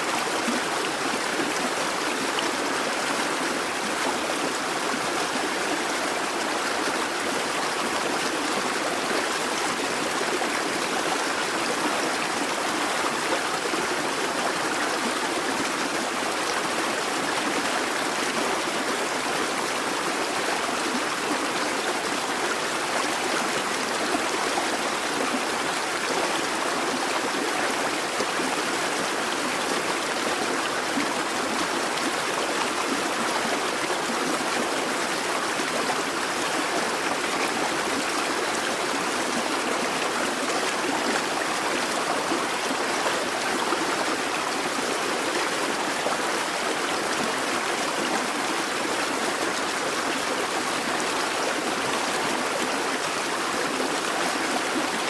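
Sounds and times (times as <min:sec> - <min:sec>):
brook water burbling over stones: 0:00.0 - 0:55.0.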